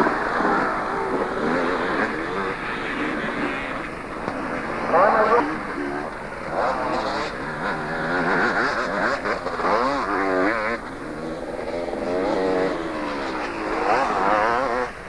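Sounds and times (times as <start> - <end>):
motocross motorcycles revving: 0.0 - 15.0.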